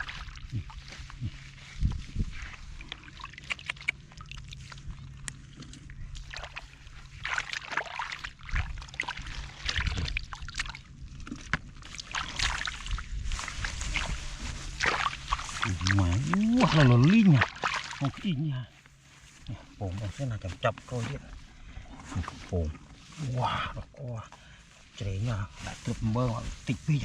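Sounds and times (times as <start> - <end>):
shallow water sloshing: 0.0 - 27.0.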